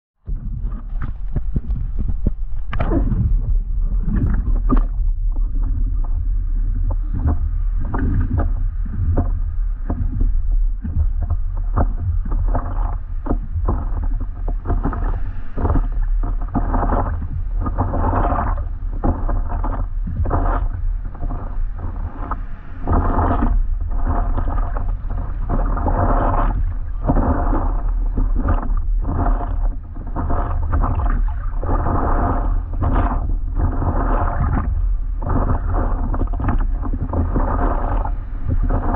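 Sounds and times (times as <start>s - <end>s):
wind buffeting microphone: 0.2s - 38.9s
water splashing around paddleboard: 0.3s - 38.9s.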